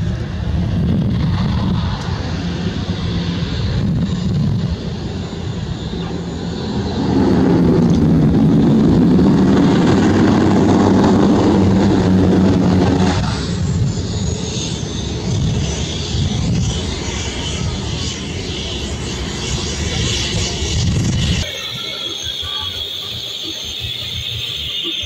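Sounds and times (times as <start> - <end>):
high turbine whine: 0.0 - 25.0
turboprop propeller hum: 0.0 - 25.0.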